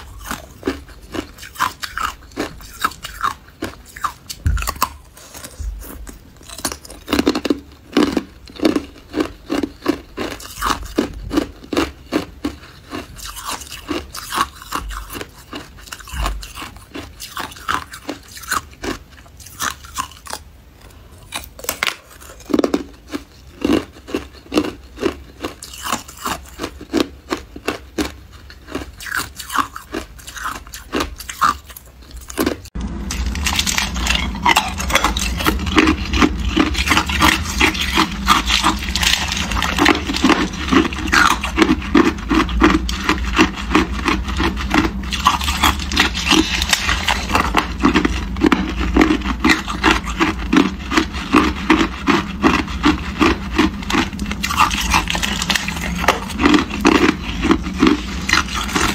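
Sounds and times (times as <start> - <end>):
ice crunching between teeth: 0.0 - 58.9.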